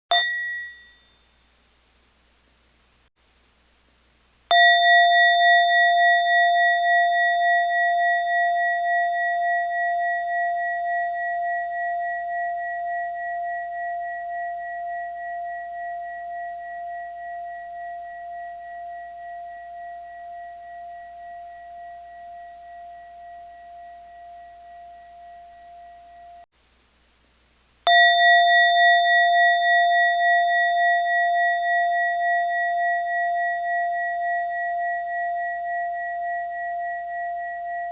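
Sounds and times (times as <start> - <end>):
bowl bell ringing: 0.1 - 1.4, 4.5 - 26.5, 27.9 - 37.9.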